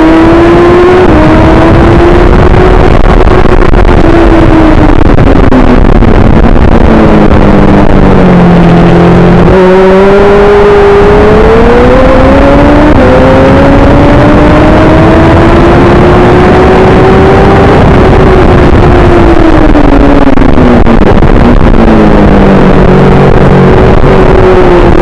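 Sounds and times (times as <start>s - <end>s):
heavy wind noise: 0.0s - 25.0s
racing motorcycle engine: 0.0s - 25.0s.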